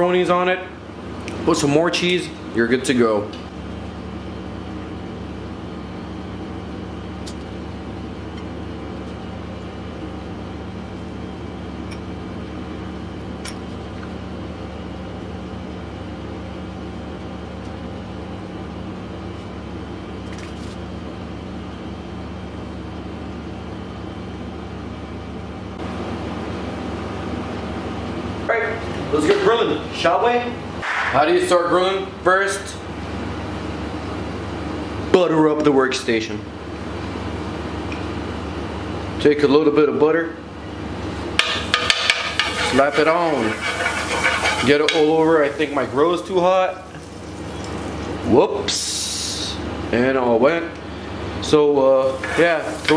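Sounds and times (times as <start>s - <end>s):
mechanical hum: 0.0s - 52.9s.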